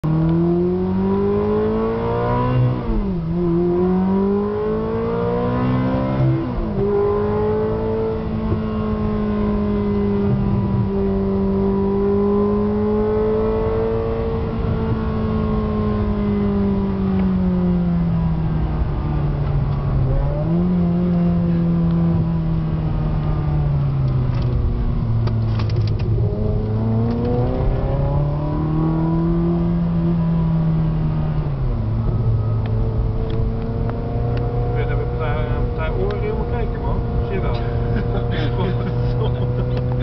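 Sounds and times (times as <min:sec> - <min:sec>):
car engine accelerating from cabin: 0:00.0 - 0:40.0.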